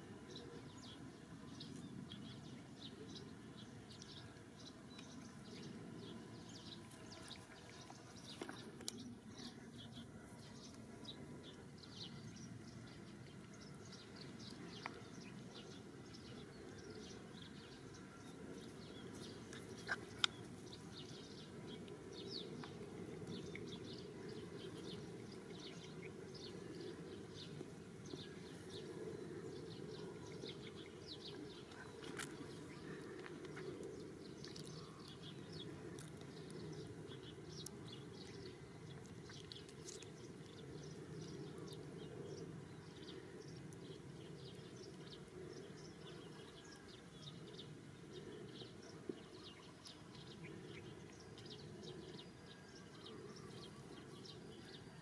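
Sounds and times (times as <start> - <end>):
low steady background noise: 0.0 - 55.0.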